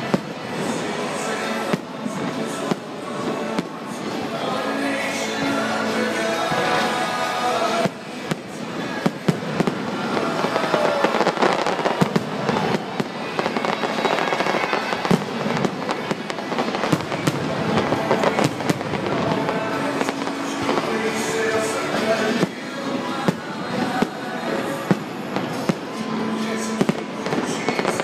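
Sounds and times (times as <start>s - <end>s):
fireworks bursting: 0.0s - 28.0s
music playing: 0.0s - 28.0s.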